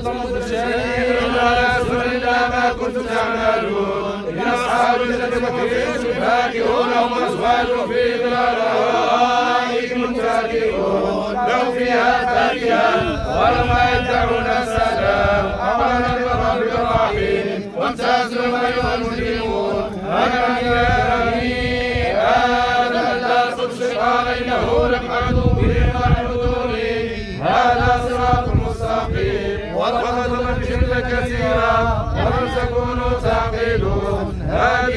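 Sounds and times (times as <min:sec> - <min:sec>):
crowd chanting: 0:00.0 - 0:34.9.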